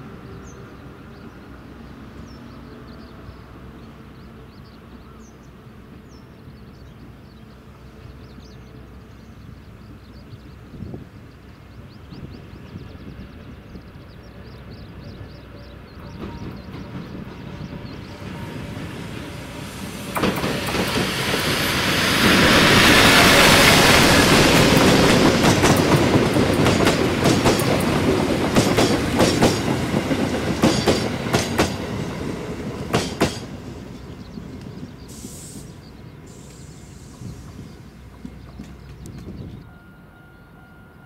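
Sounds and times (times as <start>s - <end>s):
electric locomotive passing: 0.0s - 41.0s.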